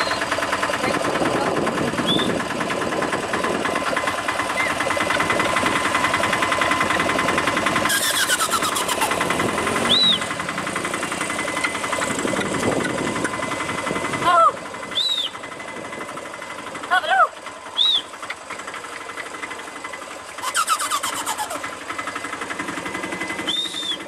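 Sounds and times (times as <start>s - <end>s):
small engine chugging: 0.0s - 24.0s.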